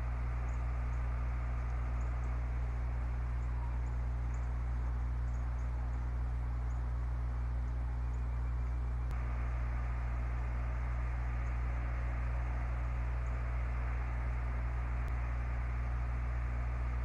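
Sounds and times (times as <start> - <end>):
constant hiss: 0.0 - 17.0
low electrical hum: 0.0 - 17.0.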